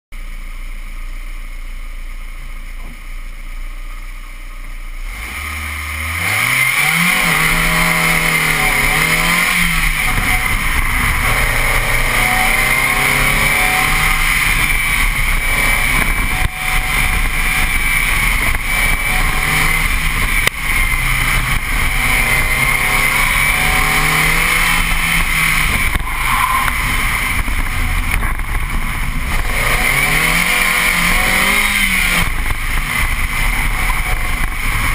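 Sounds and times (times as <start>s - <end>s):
car engine revving: 1.5s - 34.9s
wind and road noise: 5.0s - 34.9s.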